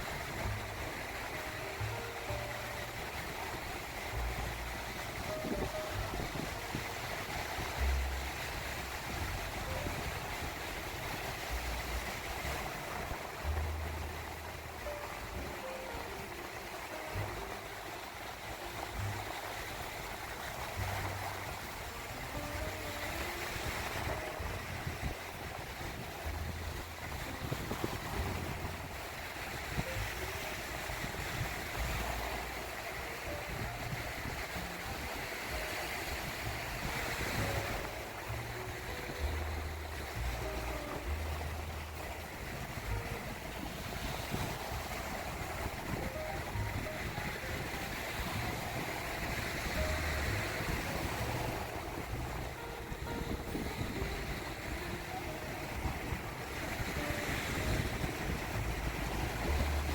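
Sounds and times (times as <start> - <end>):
small waves washing onto beach: 0.0 - 59.9
wind on microphone: 0.0 - 59.9.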